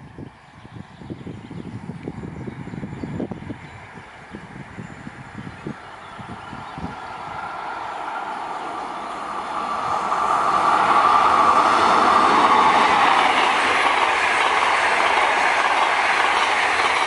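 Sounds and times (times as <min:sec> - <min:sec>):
train wheels rushing on rail: 0:00.1 - 0:17.0.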